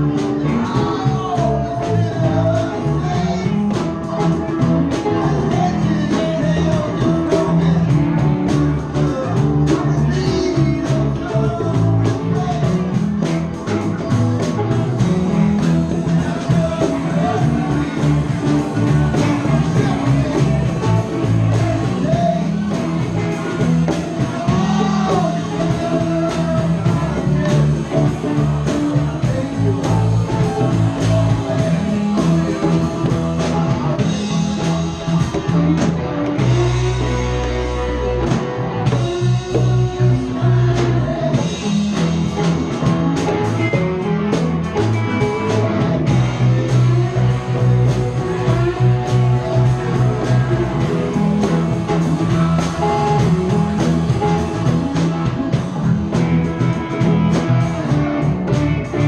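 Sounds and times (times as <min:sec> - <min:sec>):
live rock band playing: 0:00.0 - 0:59.0
person singing: 0:00.0 - 0:59.0.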